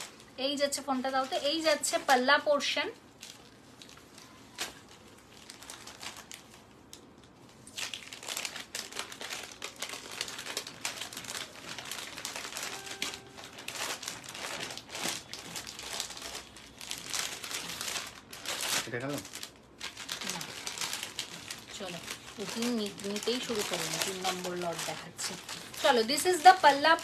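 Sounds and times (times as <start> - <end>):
fabric crinkling and rustling: 0.0 - 27.0.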